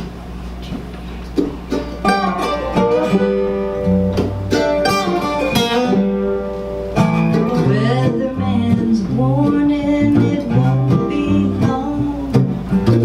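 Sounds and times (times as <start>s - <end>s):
acoustic guitar strumming: 1.6s - 13.0s
low bass notes: 1.7s - 13.0s.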